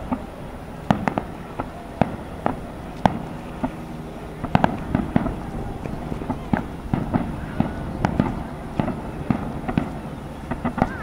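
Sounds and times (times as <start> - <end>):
firework shells banging: 0.0 - 11.0.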